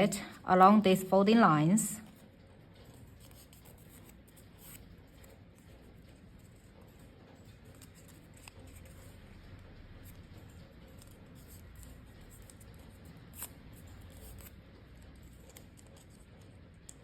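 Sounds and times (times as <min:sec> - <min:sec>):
cardstock rustling and crackling: 0:02.1 - 0:17.0.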